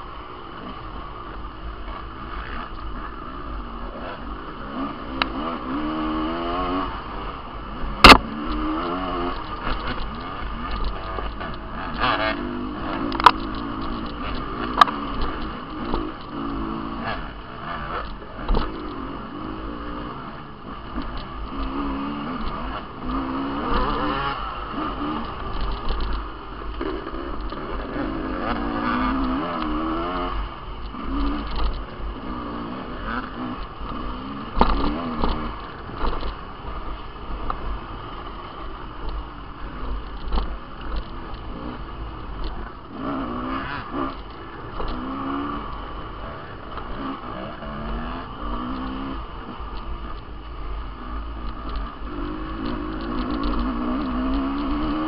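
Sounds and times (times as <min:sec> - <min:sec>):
dirt bike engine revving: 0:01.6 - 0:55.0.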